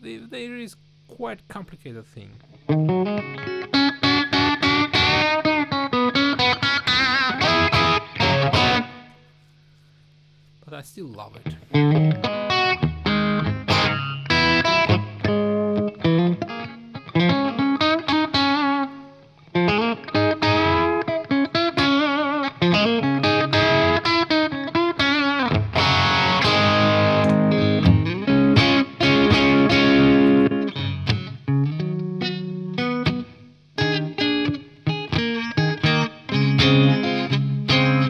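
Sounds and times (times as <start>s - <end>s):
overdriven electric guitar: 2.4s - 9.3s, 11.4s - 38.0s.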